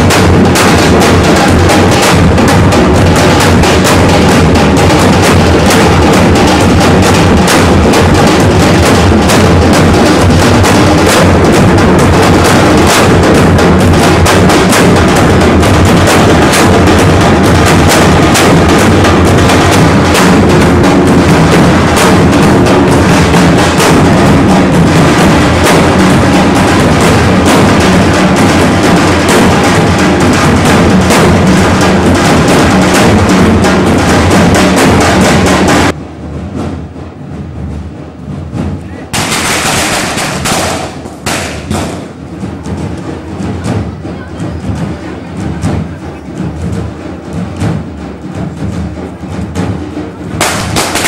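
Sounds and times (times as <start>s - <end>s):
barrel drums beaten with sticks: 0.0s - 51.0s.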